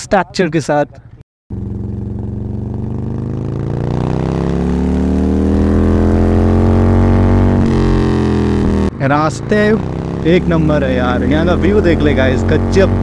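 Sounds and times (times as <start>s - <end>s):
motorcycle engine accelerating: 1.5s - 13.0s.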